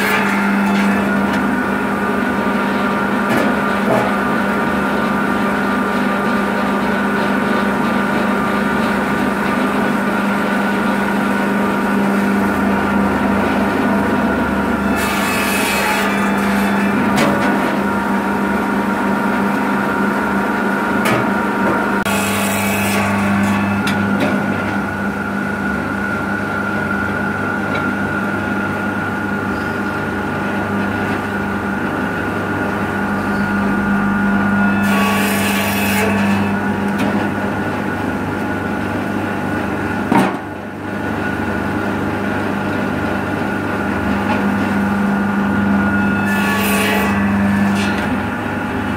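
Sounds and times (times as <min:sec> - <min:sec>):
saw bench motor humming: 0:00.0 - 0:48.9.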